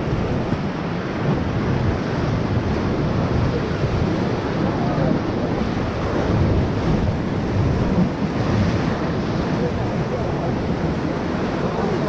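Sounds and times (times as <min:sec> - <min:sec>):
whitewater rushing and churning: 0:00.0 - 0:12.0
wind buffeting microphone: 0:00.0 - 0:12.0.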